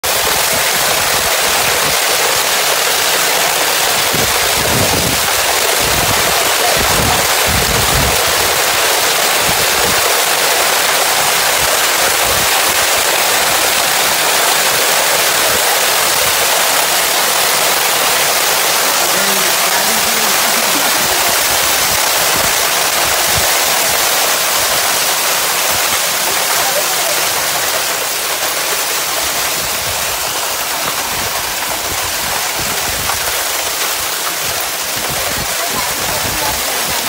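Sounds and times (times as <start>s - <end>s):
heavy rain pelting: 0.0s - 37.0s.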